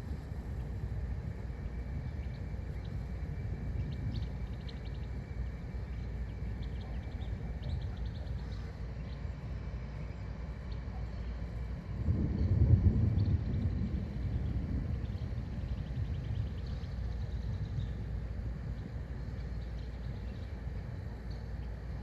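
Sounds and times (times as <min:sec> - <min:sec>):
wind on microphone: 0:00.0 - 0:08.1, 0:10.9 - 0:20.7
low rumble: 0:00.0 - 0:22.0.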